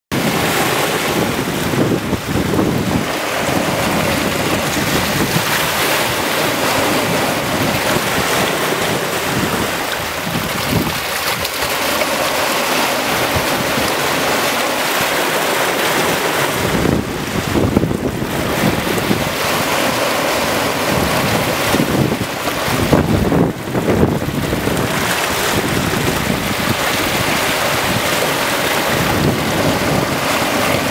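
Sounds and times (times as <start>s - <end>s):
waves splashing past a hull: 0.1s - 30.9s
wind buffeting microphone: 0.1s - 30.9s.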